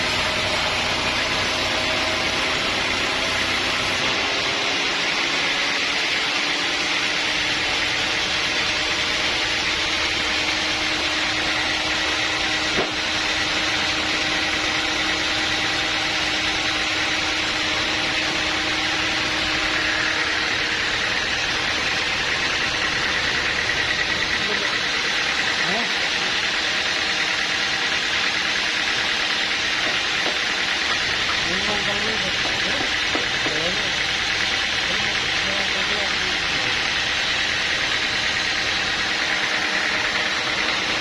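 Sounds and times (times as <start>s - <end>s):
sawmill motor hum: 0.0s - 41.0s.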